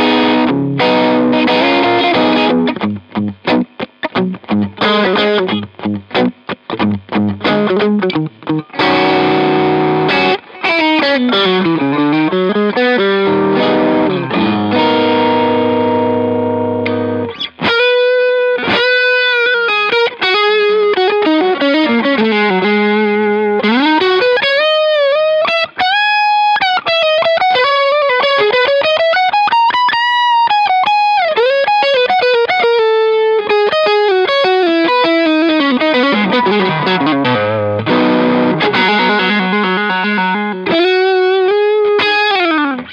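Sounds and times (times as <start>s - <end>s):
distorted electric guitar: 0.0s - 42.9s.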